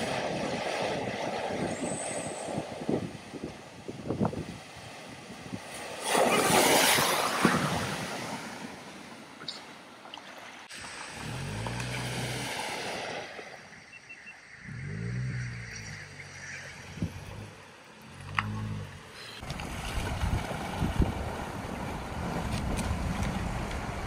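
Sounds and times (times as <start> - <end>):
water splashing: 0.0 - 24.0.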